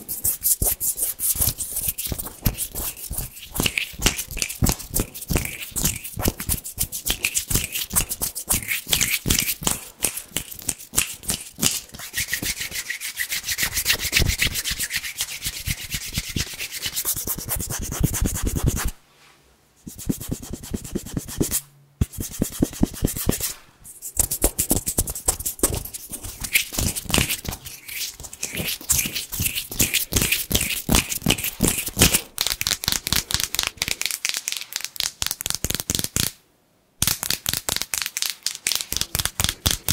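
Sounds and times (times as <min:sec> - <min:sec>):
hands rubbing together: 0:00.0 - 0:19.0, 0:19.9 - 0:36.3, 0:37.0 - 0:39.9.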